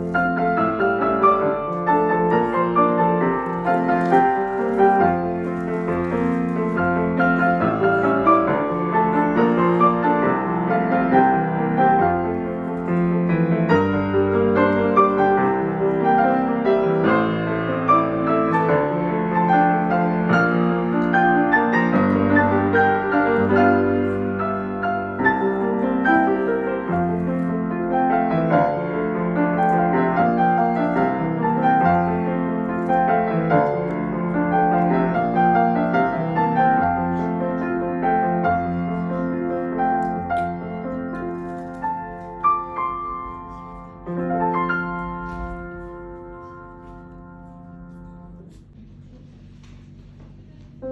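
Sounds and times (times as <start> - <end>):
piano-led background music: 0.0 - 48.7.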